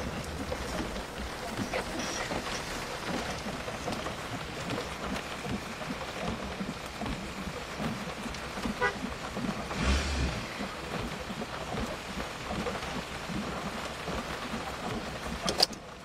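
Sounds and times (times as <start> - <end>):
rain on car windshield: 0.0 - 16.0.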